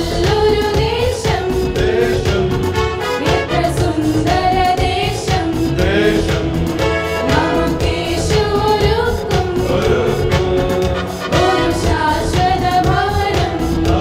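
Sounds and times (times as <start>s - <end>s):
people singing a hymn: 0.0s - 14.0s.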